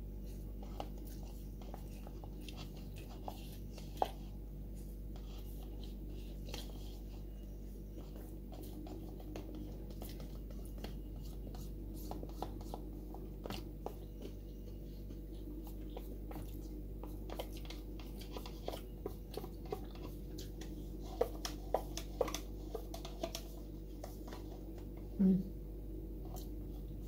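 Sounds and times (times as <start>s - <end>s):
steady low hum: 0.0s - 27.0s
soft chewing: 0.1s - 25.2s, 26.1s - 27.0s.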